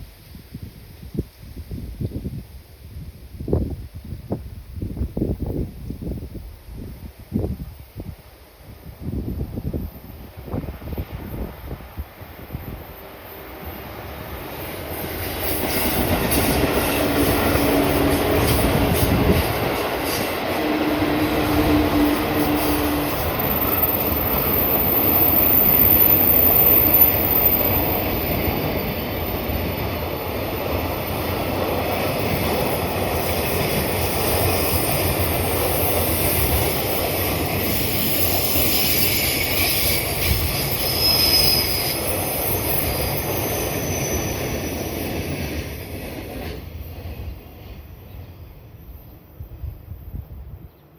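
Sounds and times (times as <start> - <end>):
train passing: 7.3 - 50.9.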